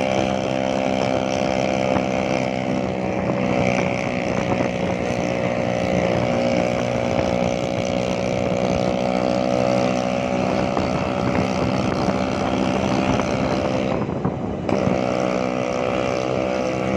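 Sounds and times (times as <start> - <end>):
motor scooter engine running: 0.0 - 16.9.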